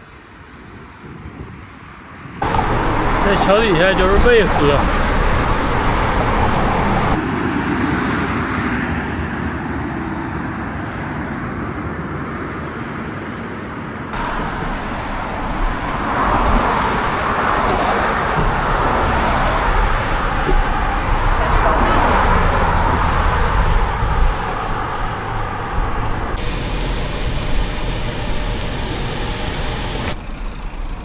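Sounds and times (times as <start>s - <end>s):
road traffic rushing past: 2.4s - 31.0s.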